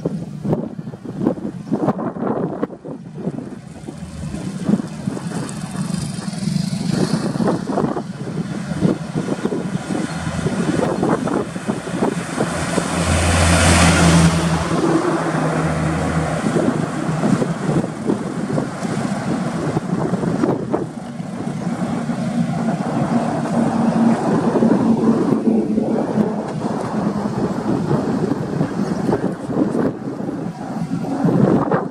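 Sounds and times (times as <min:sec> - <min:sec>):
truck engine droning: 0:00.0 - 0:31.9
truck passing with tyre rush: 0:00.0 - 0:31.9.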